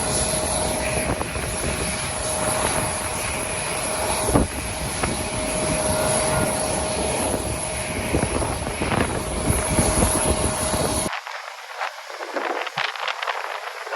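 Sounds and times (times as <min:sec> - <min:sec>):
jet engines whining: 0:00.0 - 0:13.1
wind buffeting microphone: 0:00.0 - 0:13.9.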